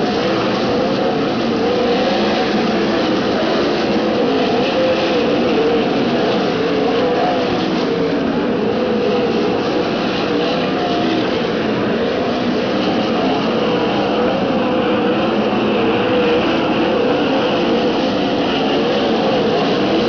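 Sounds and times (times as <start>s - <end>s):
race car engines at high revs: 0.0s - 20.0s.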